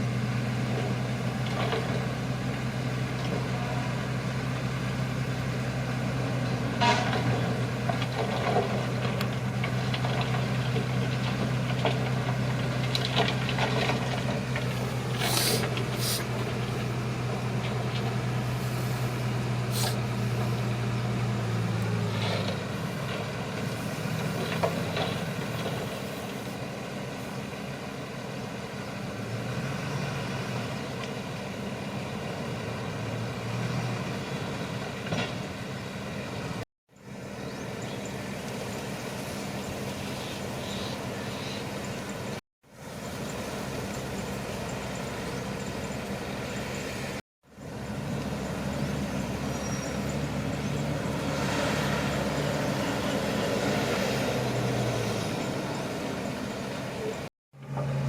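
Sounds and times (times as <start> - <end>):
bulldozer engine running: 0.0 - 58.0.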